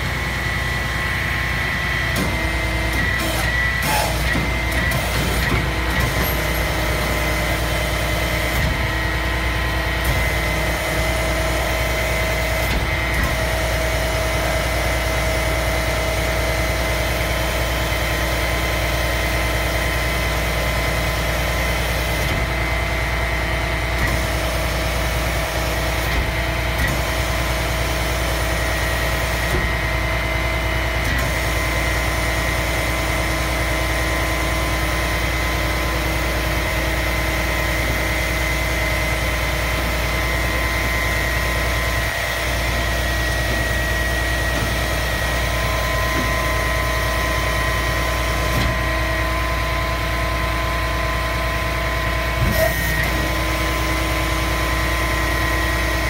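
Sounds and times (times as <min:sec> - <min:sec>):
diesel engine idling: 0:00.0 - 0:56.0
hydraulic high whine: 0:00.0 - 0:56.0.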